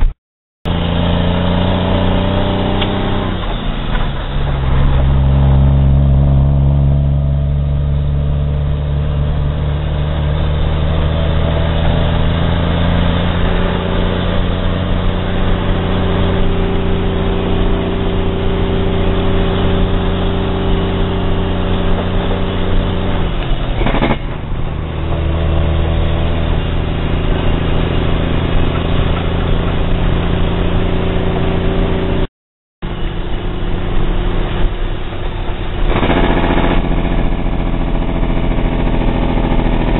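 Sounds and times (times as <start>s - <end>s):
diesel truck engine running: 0.7s - 39.9s.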